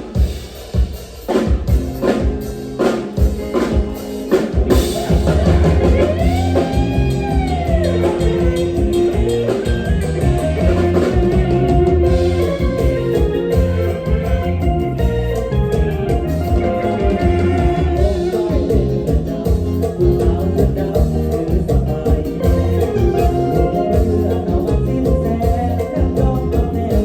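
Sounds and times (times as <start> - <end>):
band music with drums and bass: 0.0 - 27.0
bending melody line: 4.6 - 27.0.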